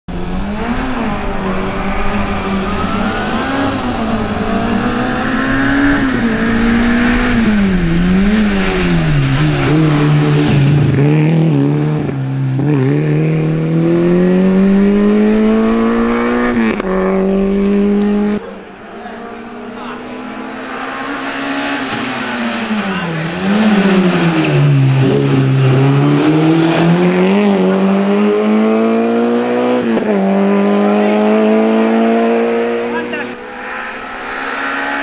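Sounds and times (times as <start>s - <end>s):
race car engine accelerating: 0.1s - 35.0s.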